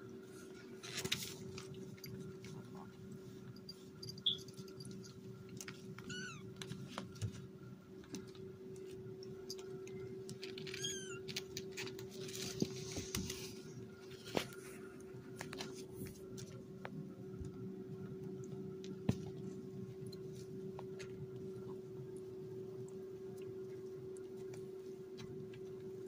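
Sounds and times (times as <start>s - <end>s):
steady low hum: 0.0s - 26.0s
paws scratching on a pad: 0.2s - 26.0s.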